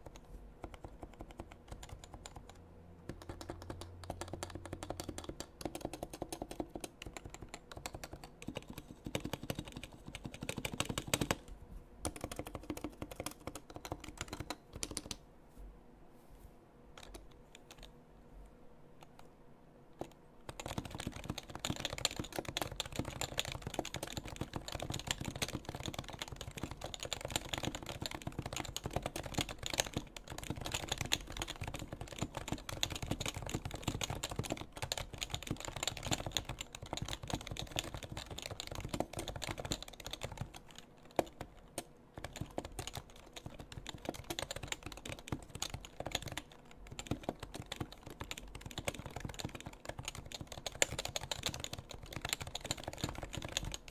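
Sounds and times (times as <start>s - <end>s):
fast keyboard typing: 0.0s - 11.4s, 12.0s - 15.2s, 17.0s - 17.9s, 20.0s - 53.9s.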